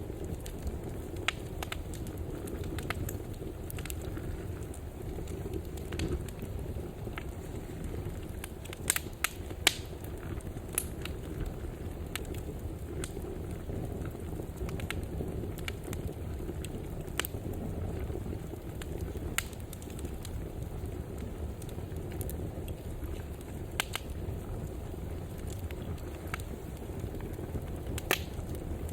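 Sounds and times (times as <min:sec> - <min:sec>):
fire flames rumbling: 0:00.0 - 0:28.9
fire popping and crackling: 0:00.0 - 0:28.9.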